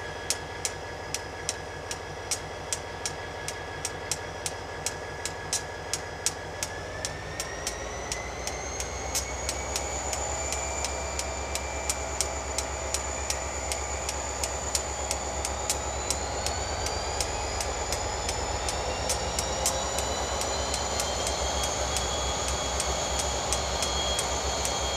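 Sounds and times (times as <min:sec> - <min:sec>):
diesel train engine rumble: 0:00.0 - 0:24.9
train wheels clicking: 0:00.0 - 0:24.9.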